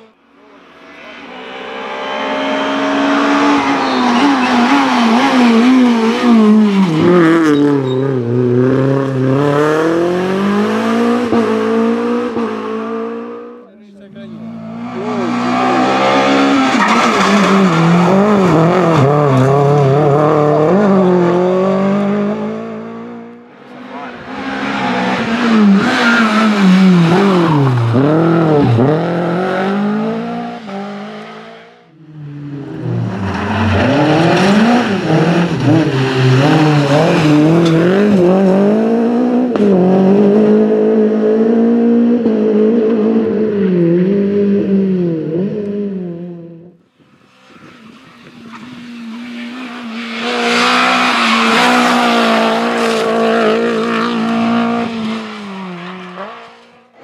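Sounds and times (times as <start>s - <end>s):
rally car engines at full throttle: 0.0s - 57.0s.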